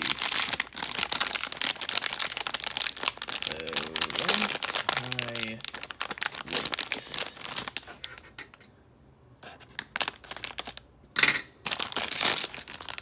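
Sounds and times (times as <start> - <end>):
foil bag crinkling: 0.0 - 8.2, 9.9 - 10.9, 11.6 - 13.0.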